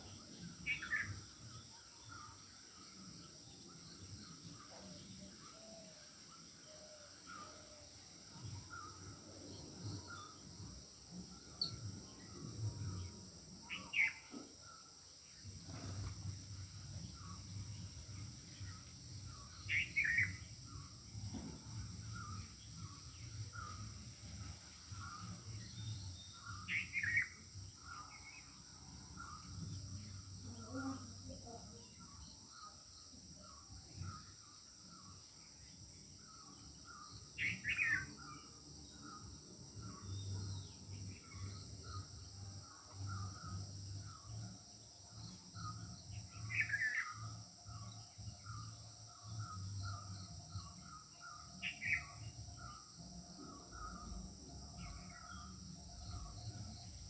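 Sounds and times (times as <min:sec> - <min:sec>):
high insect drone: 0:00.0 - 0:57.0
small birds chirping: 0:00.0 - 0:57.0.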